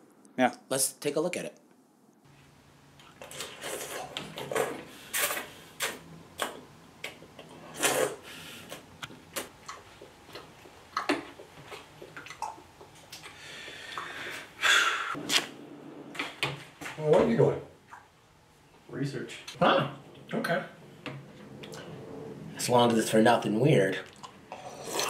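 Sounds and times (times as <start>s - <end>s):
low steady hum: 1.5s - 25.0s.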